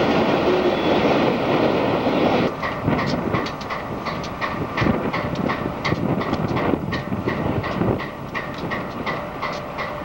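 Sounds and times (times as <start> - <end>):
diesel locomotive engines rumbling: 0.0 - 10.0
train wheels clicking over rail joints: 0.0 - 10.0.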